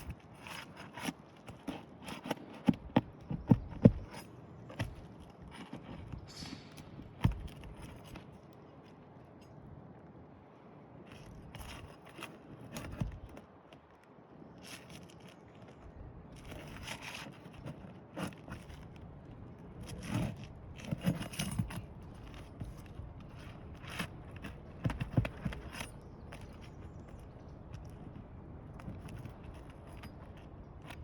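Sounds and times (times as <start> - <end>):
shingles scraping and knocking: 0.0 - 9.4, 11.1 - 31.0.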